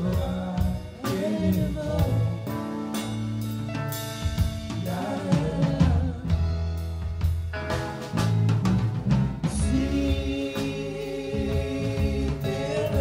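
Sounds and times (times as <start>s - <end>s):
drum and cymbal hits: 0.0s - 13.0s
electric guitar: 0.0s - 13.0s
live band playing: 0.0s - 13.0s.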